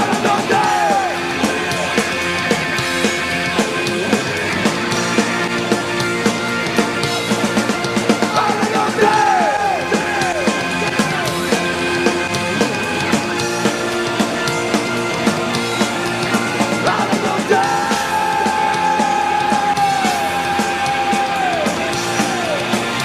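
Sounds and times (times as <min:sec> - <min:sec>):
punk rock band playing: 0:00.0 - 0:23.0.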